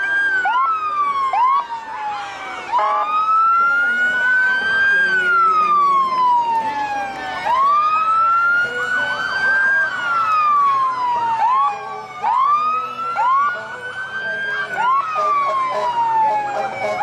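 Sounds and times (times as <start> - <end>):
police siren wailing: 0.0 - 17.0
siren whoops: 0.0 - 17.0.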